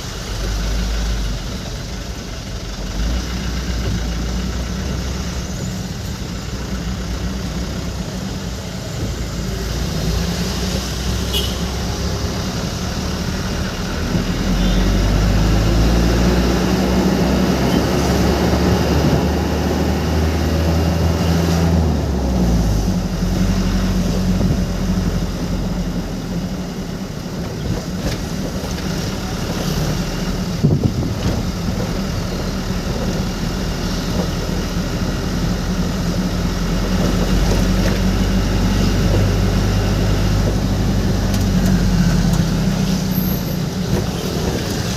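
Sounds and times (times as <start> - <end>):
road noise: 0.0 - 44.9
vehicle engine running: 0.0 - 44.9.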